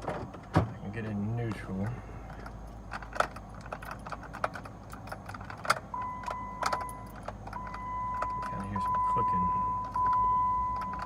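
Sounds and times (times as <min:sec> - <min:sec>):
keys jingling in ignition: 0:00.4 - 0:11.0.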